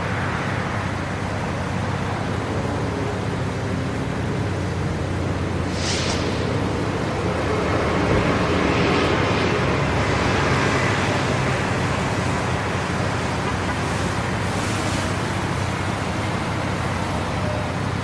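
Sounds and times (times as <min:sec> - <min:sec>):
car engine: 0:00.0 - 0:18.0
road noise: 0:00.0 - 0:18.0.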